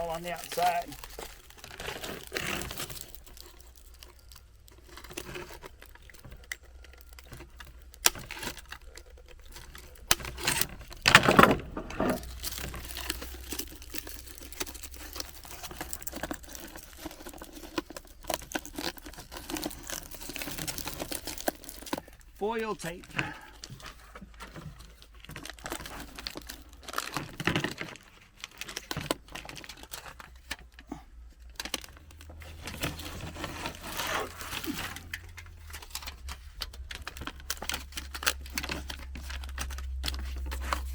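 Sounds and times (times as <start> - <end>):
vinyl clicks and crinkles: 0.0 - 40.9.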